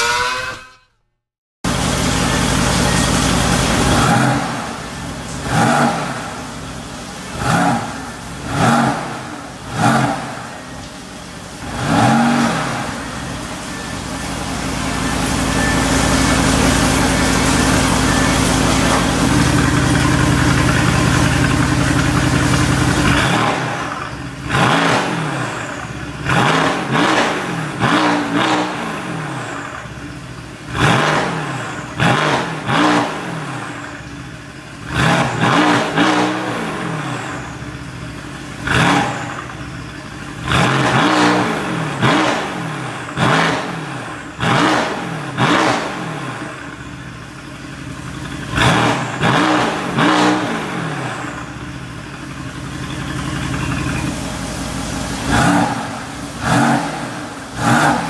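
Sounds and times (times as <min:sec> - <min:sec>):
car engine revving: 0:01.7 - 0:58.0.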